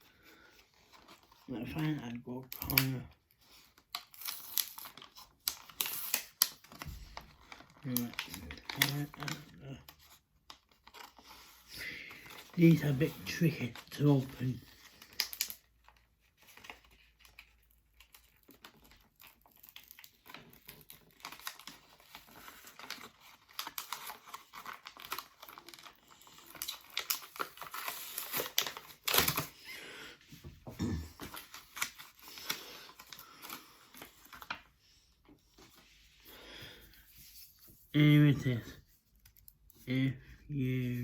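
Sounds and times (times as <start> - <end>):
packaging crinkling and tearing: 0.0 - 37.7.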